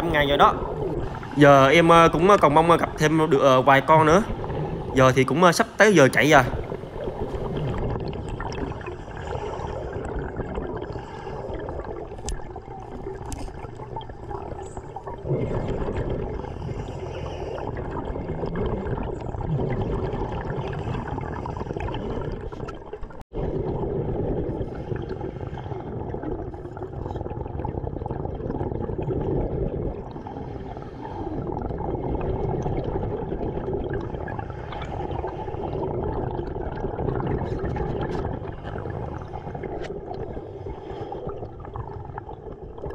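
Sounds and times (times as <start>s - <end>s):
bubbles gurgling: 0.0s - 42.9s.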